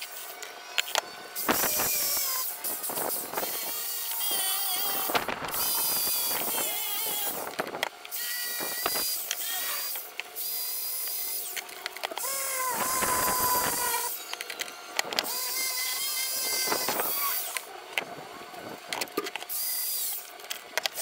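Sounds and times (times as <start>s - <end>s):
electric drill motor whine: 0.0s - 21.0s.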